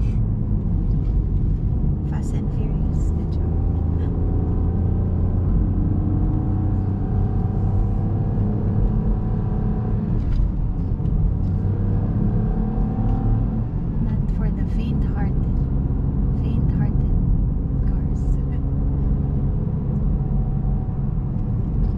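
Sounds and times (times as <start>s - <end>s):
car engine and road noise: 0.0s - 21.9s.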